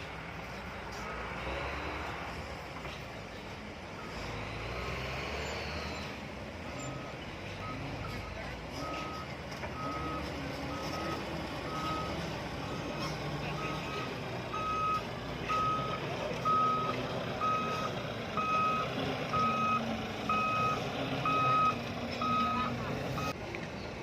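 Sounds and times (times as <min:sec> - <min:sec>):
diesel engine running: 0:00.0 - 0:24.0
truck reversing alarm beeping: 0:00.1 - 0:02.2, 0:03.4 - 0:23.4.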